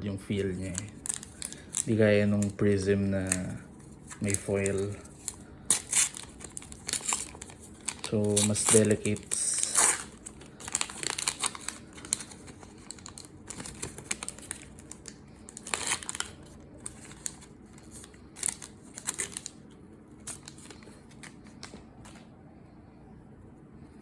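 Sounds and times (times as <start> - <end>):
trading cards clicking and rustling: 0.6 - 22.3.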